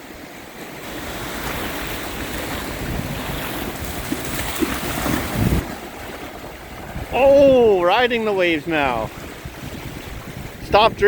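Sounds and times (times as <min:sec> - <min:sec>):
sea waves on shore: 0:00.0 - 0:11.0
wind buffeting microphone: 0:00.8 - 0:11.0.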